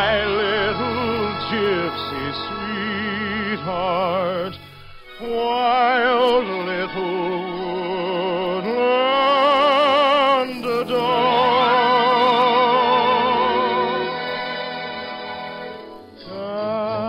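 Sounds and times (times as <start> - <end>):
operatic voice singing: 0.0 - 15.0, 16.2 - 17.0
orchestral accompaniment: 0.0 - 17.0.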